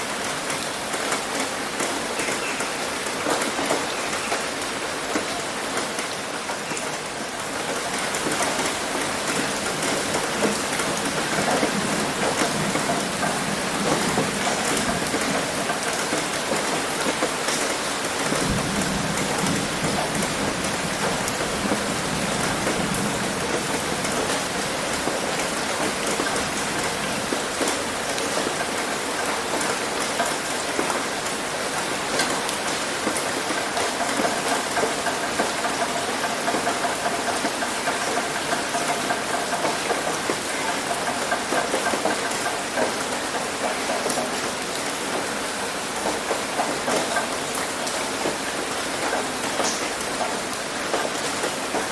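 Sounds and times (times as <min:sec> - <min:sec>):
heavy rain on a roof: 0:00.0 - 0:51.9.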